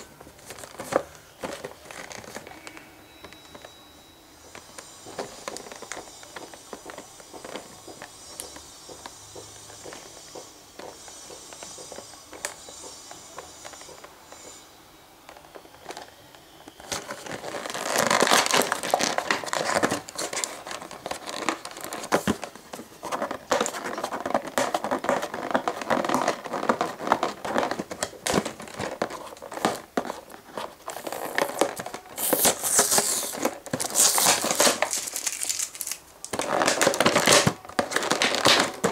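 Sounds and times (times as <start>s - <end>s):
plastic packaging crinkling: 0.0s - 3.7s, 4.5s - 8.7s, 15.3s - 38.9s.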